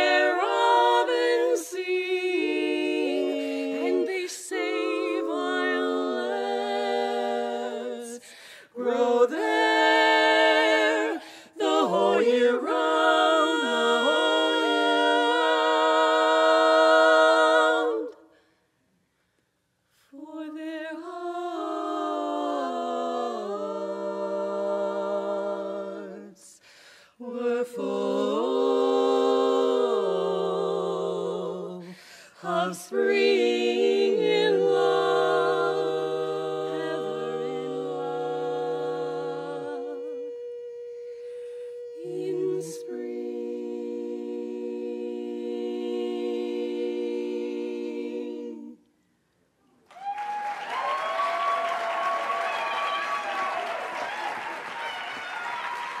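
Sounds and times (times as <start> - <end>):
women singing close harmony: 0.0 - 18.4, 20.1 - 49.0.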